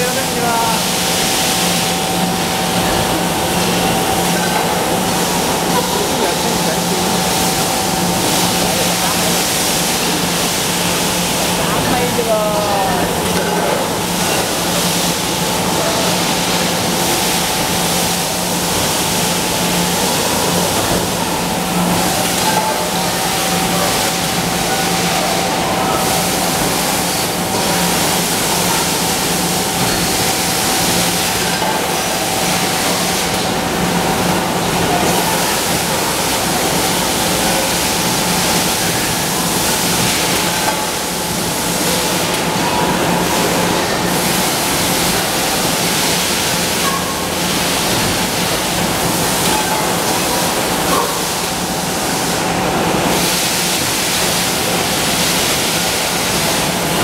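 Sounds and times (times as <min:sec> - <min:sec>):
belt conveyor running: 0:00.0 - 0:57.0.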